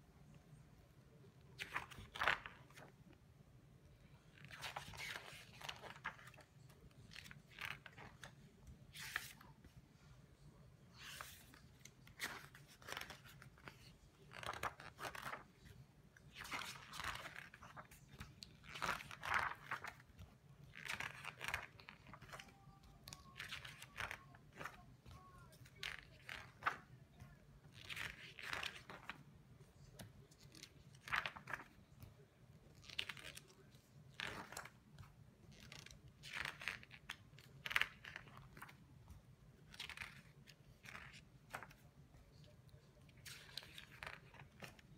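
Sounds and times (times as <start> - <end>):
book pages turning: 1.4 - 3.2, 4.0 - 44.9.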